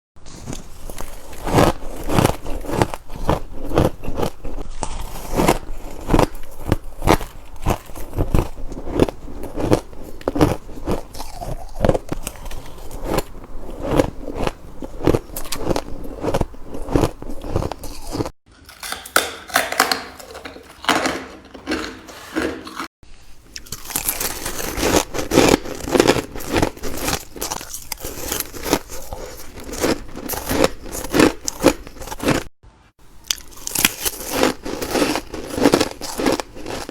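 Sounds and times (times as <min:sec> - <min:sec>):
ice crunching between teeth: 0:00.3 - 0:22.9, 0:23.5 - 0:32.5, 0:33.2 - 0:36.9.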